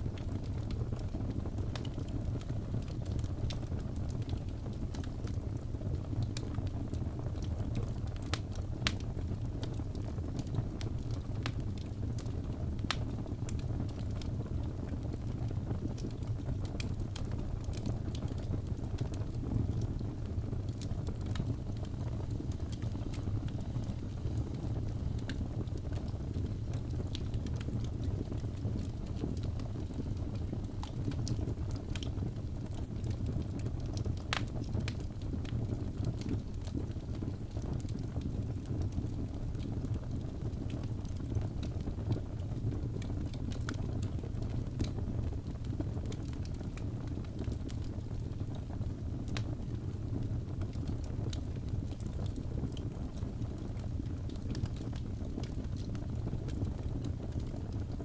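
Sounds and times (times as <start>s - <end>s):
burning wood crackling and popping: 0.0s - 58.0s
low rumble of flames: 0.0s - 58.0s.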